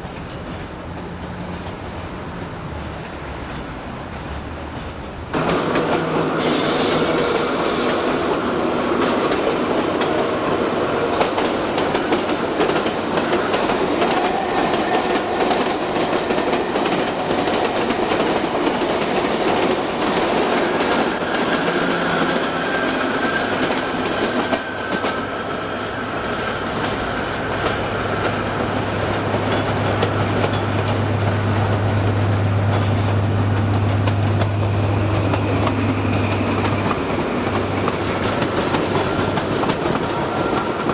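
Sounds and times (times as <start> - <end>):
train wheels clicking over rail joints: 0.0 - 40.9.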